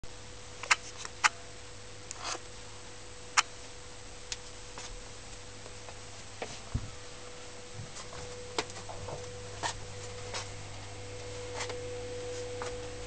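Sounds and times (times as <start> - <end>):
gas boiler humming: 0.0 - 13.0.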